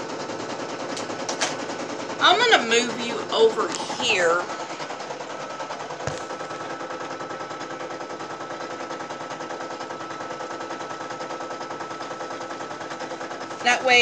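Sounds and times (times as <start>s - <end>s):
embroidery machine stitching: 0.0s - 14.0s.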